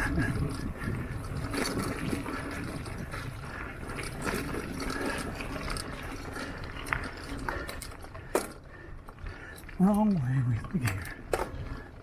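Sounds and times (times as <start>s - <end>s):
bike clicks and rattles: 0.0s - 12.0s
wind and tyre rumble: 0.0s - 12.0s.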